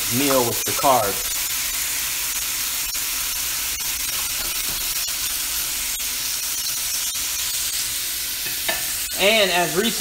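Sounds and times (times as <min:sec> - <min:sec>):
frying crackles: 0:00.0 - 0:10.0
meat and vegetables sizzling in skillet: 0:00.0 - 0:10.0.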